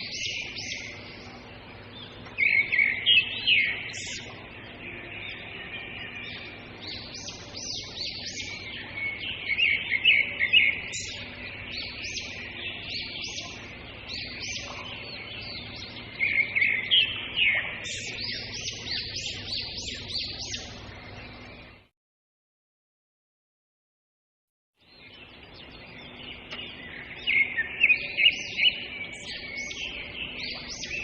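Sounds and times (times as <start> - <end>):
small birds chirping: 0.0 - 21.9, 24.8 - 31.0.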